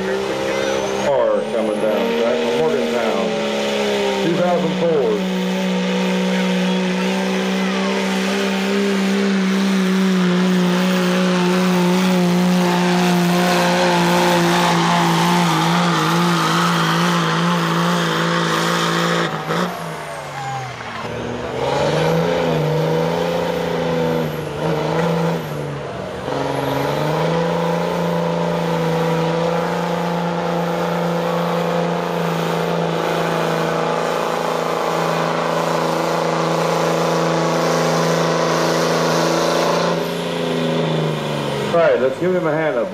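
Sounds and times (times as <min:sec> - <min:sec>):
diesel truck engine at high revs: 0:00.0 - 0:42.9.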